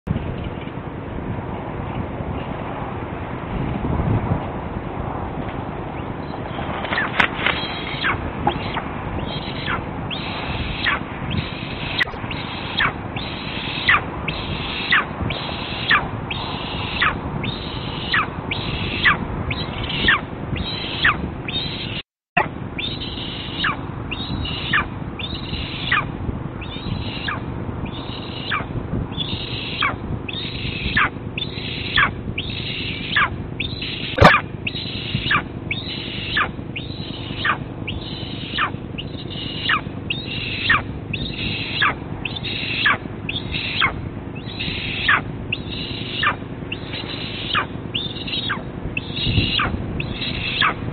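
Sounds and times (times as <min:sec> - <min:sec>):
eagle calling: 0:06.2 - 0:22.0, 0:22.8 - 0:50.9.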